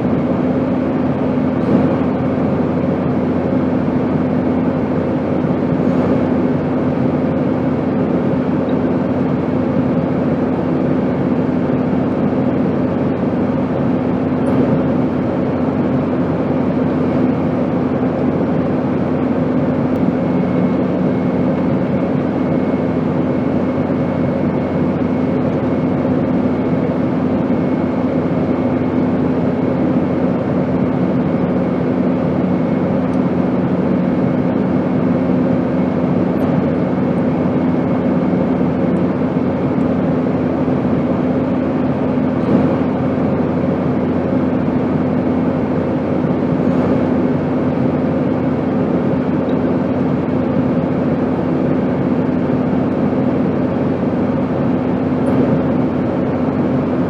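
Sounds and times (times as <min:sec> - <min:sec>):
airplane drone: 0:00.0 - 0:57.0
second lower hum: 0:00.0 - 0:57.0.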